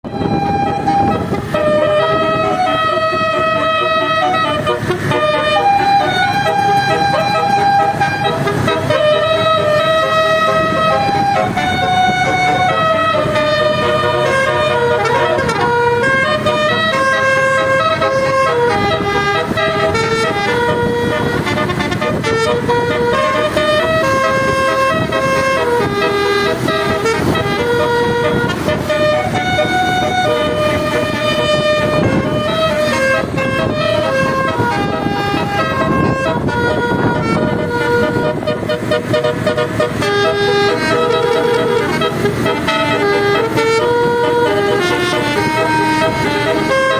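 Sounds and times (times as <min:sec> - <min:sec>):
multi-tone bus horn melody: 0:00.0 - 0:46.9
steady low rumble: 0:00.0 - 0:46.9.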